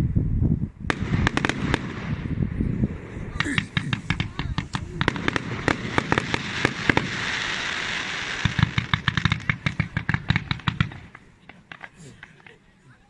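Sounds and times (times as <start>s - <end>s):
fireworks bangs and crackles: 0.8s - 12.6s
fireworks hissing rush: 0.9s - 12.7s.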